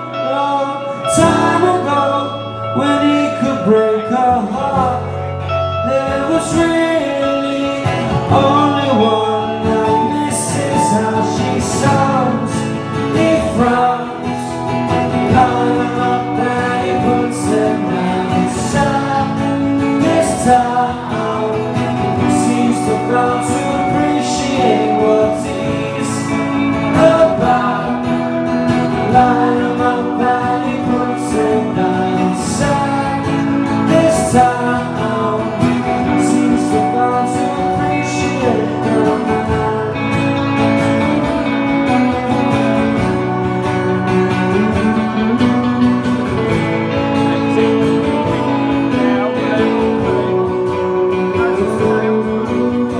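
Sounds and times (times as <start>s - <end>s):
man singing: 0.0s - 52.9s
strummed acoustic guitar: 0.0s - 52.9s.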